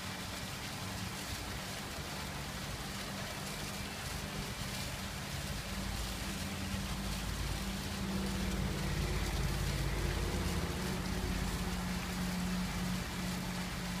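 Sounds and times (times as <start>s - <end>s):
fountain water splashing on stone: 0.0s - 14.0s
low mechanical hum: 0.0s - 14.0s.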